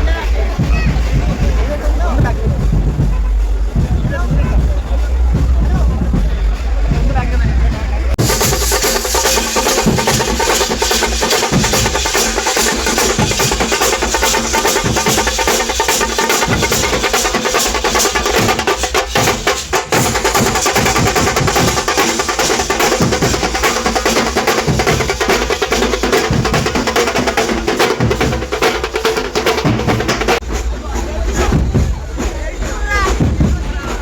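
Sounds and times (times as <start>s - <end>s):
drum ensemble playing: 0.0s - 34.0s.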